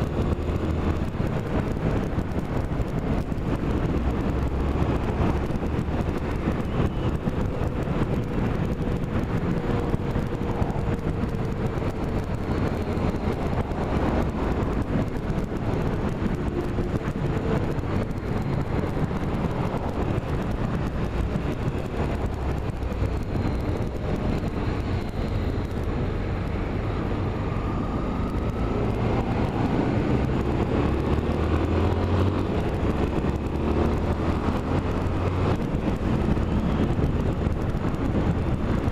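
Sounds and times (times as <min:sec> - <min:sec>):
road noise: 0:00.0 - 0:38.9
vehicle engine rumble: 0:00.0 - 0:38.9
wind: 0:00.0 - 0:38.9.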